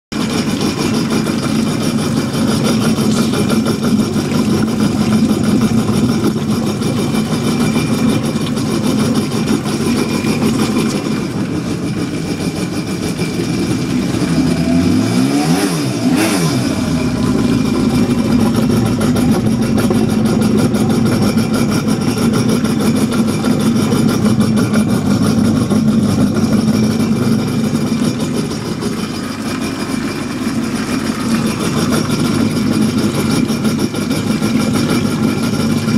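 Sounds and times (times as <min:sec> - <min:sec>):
watercraft engine idling: 0:00.1 - 0:35.9.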